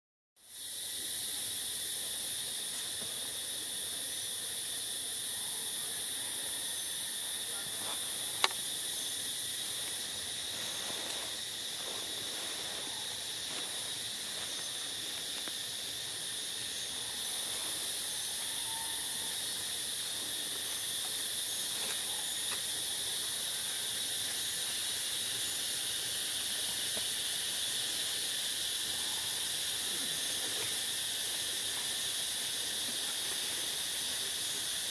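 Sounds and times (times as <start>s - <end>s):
insect chorus drone: 0.4s - 34.9s.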